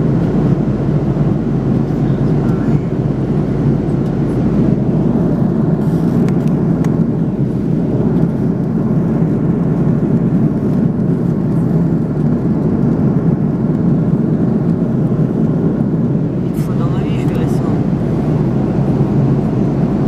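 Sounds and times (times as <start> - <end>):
airliner cabin engine and airflow rush: 0.0 - 20.0.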